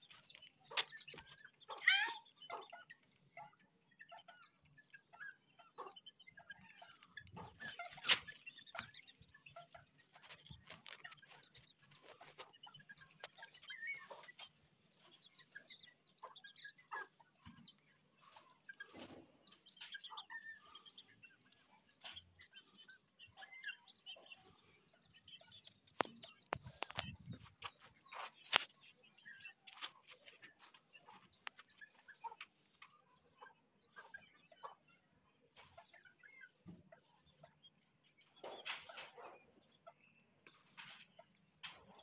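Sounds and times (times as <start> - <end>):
chickens clucking and chirping: 0.0 - 42.0.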